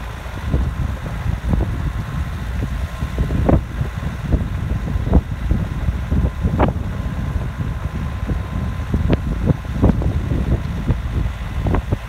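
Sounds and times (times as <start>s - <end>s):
vehicle rumbling on gravel: 0.0s - 12.0s
wind buffeting microphone: 0.0s - 12.0s.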